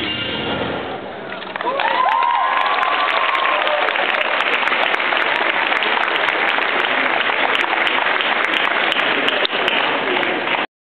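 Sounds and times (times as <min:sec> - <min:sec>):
crowd applauding: 0:01.2 - 0:10.7.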